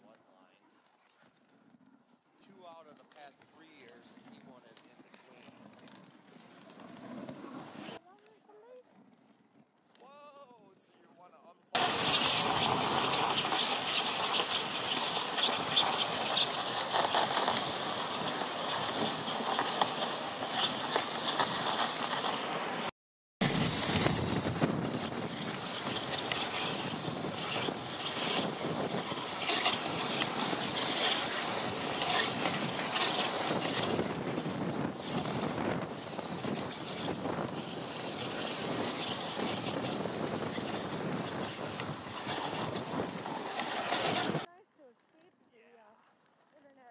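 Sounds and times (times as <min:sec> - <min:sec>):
sled runners hissing over snow: 0:02.4 - 0:08.8, 0:11.8 - 0:44.5.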